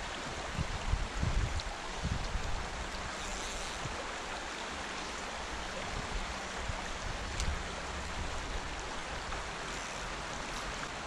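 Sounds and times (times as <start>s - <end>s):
stream running over stones: 0.0s - 11.0s
wind rumbling on microphone: 0.0s - 11.0s.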